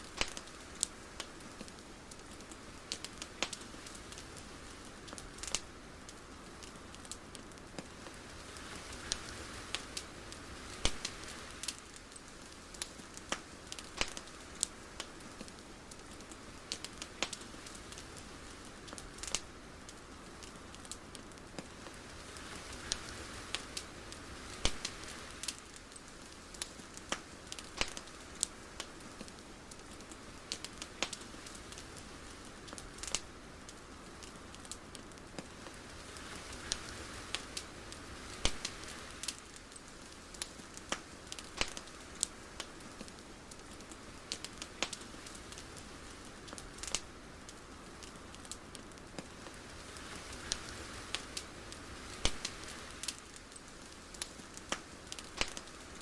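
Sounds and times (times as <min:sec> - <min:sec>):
sharp crackles: 0:00.0 - 0:56.0
soft steady hiss: 0:00.0 - 0:56.0.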